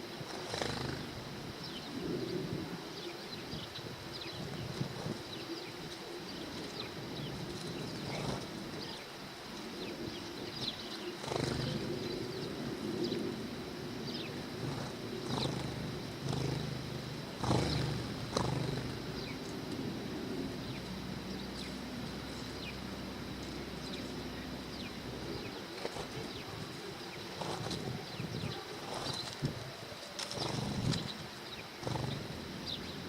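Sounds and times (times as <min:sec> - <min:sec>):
sparrows chirping: 0:00.0 - 0:33.0
steady low hum: 0:00.0 - 0:33.0.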